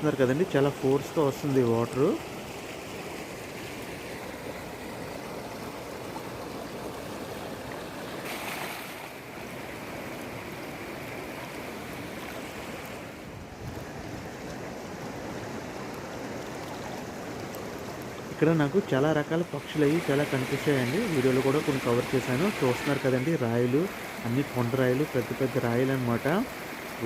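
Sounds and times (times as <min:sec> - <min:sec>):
river water rushing over boulders: 0:00.0 - 0:27.0.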